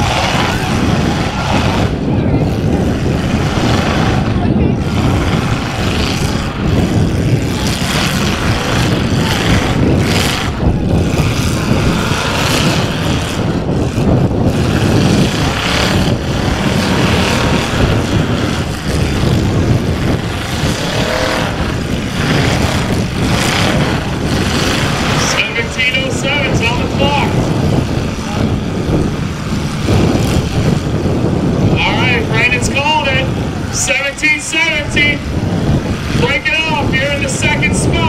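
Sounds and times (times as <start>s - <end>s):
car engines running loudly: 0.0s - 38.0s.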